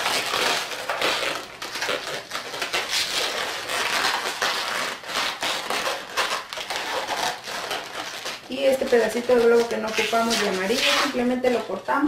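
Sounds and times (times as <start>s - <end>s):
balloons rubbing and creaking: 0.0s - 12.0s.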